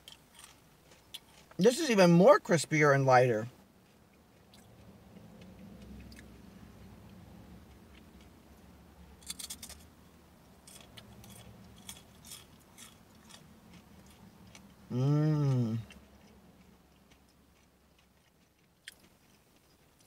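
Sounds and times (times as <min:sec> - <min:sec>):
mouth chewing crisp cracker: 0:00.0 - 0:02.2, 0:03.8 - 0:08.4, 0:09.2 - 0:09.9, 0:10.6 - 0:20.0.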